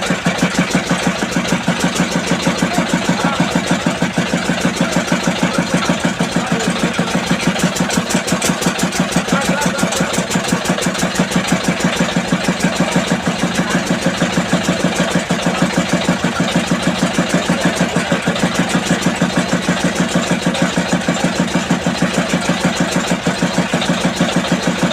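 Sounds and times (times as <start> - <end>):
tractor diesel engine idling: 0.0 - 24.9.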